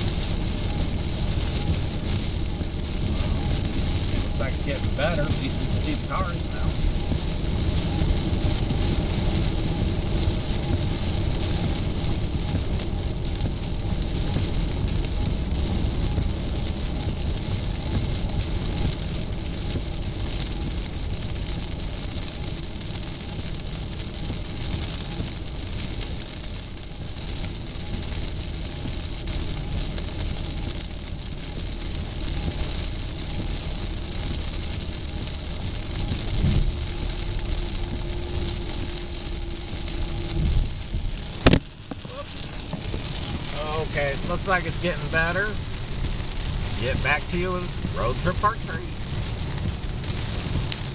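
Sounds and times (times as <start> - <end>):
rain and spray hissing on car: 0.0 - 50.9
tyre and engine rumble: 0.0 - 50.9.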